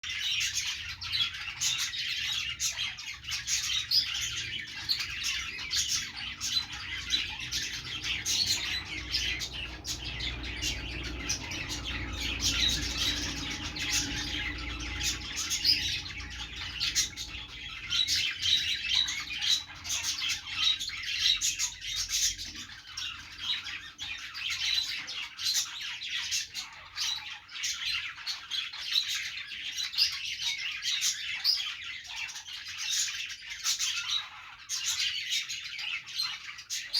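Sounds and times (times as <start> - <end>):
budgerigars chirping: 0.0 - 36.9.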